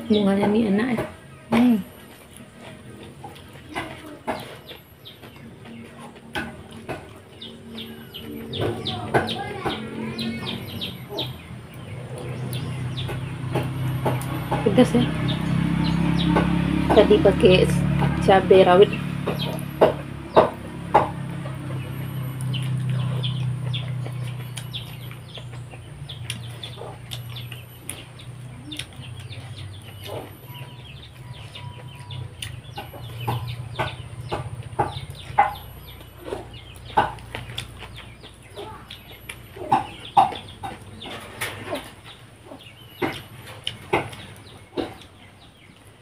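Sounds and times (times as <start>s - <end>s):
chickens clucking: 0.0s - 46.0s
chewing and smacking: 1.1s - 16.9s, 19.1s - 46.0s.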